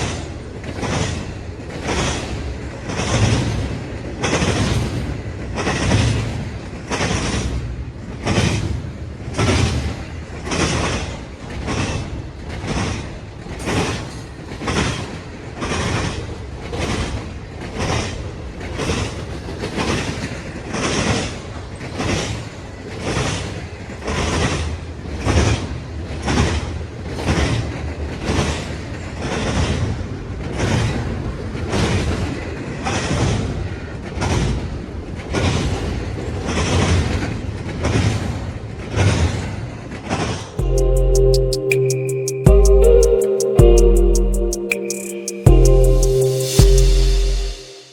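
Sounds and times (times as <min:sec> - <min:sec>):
train rumble: 0:00.0 - 0:40.6
train wheels clacking over rail joints: 0:00.0 - 0:40.6.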